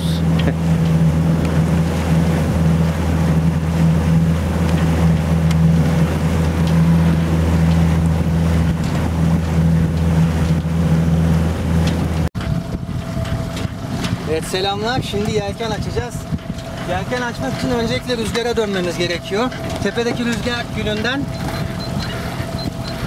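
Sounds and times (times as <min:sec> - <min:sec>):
outboard motor running: 0:00.0 - 0:23.0
water noise: 0:00.0 - 0:23.0
wind noise: 0:00.0 - 0:23.0.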